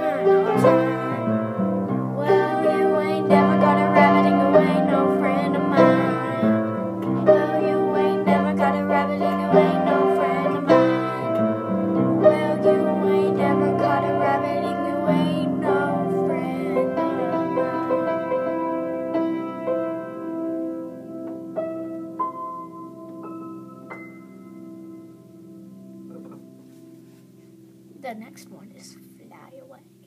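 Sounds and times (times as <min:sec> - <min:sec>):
plucked string and keyboard music: 0:00.0 - 0:28.1.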